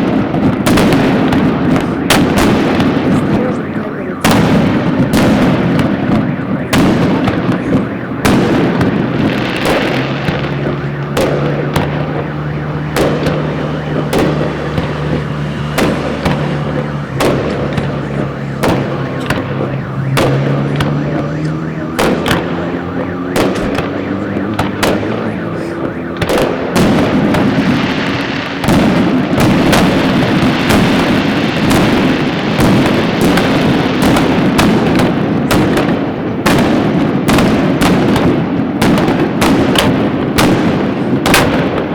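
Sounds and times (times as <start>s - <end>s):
fireworks shells bursting: 4.3s - 41.9s.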